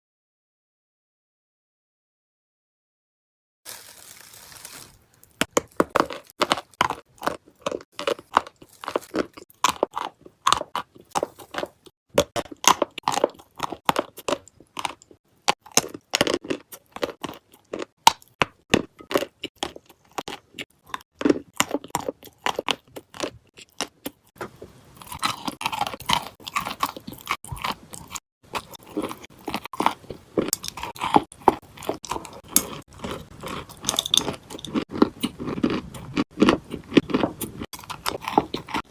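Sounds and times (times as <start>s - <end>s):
person biting and chewing clay: 5.2s - 38.9s.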